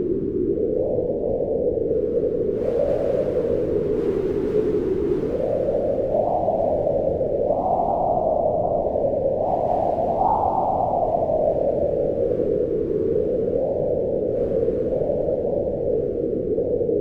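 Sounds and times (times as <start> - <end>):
wind blowing in gusts: 0.0 - 17.0.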